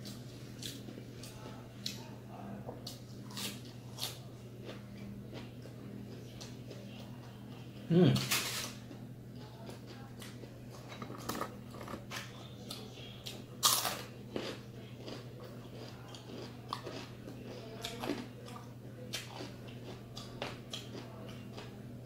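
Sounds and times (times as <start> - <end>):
person chewing crispy food: 0.0 - 2.2, 2.8 - 21.8.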